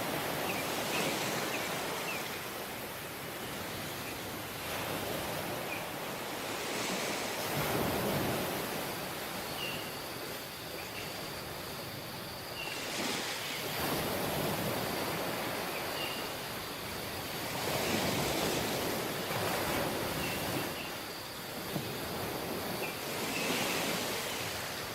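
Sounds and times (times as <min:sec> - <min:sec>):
waves washing in: 0:00.0 - 0:24.9.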